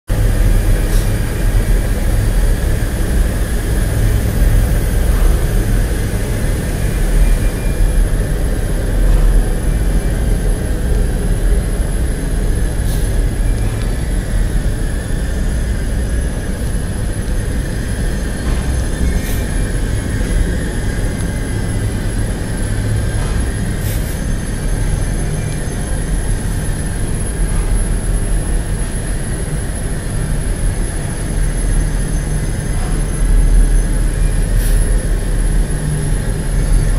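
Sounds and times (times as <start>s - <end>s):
industrial machinery rumble: 0.0s - 36.9s
faint high whine: 0.1s - 36.9s.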